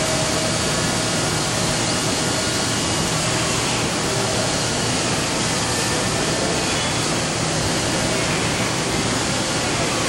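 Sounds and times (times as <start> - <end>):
faint machine whine: 0.0 - 10.0
machine hiss and hum: 0.0 - 10.0.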